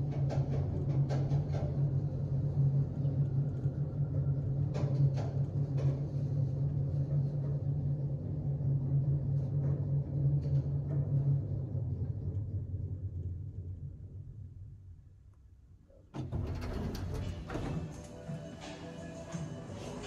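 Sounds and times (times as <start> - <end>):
elevator car rumbling: 0.0 - 14.8, 16.2 - 20.0.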